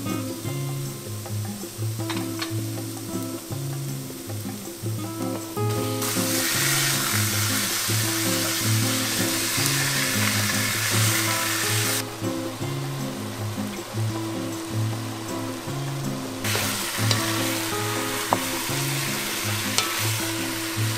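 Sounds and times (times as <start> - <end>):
background music: 0.0 - 20.9
meat sizzling in a pot: 0.0 - 20.9.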